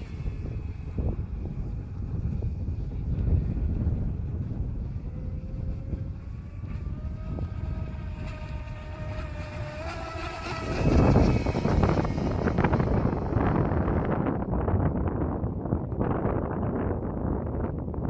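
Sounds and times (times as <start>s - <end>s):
electric boat motor whine: 0.0s - 16.4s
wind rumble on microphone: 0.0s - 18.0s.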